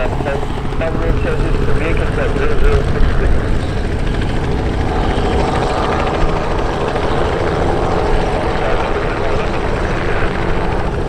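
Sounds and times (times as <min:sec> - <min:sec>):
helicopter hovering: 0:00.0 - 0:11.0.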